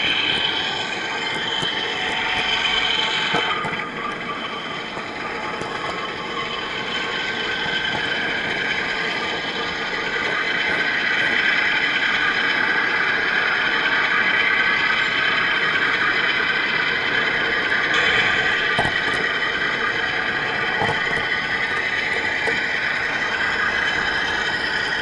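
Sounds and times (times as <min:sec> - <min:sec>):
electric motor whine: 0:00.0 - 0:25.0
wheels rolling on rails: 0:00.0 - 0:25.0.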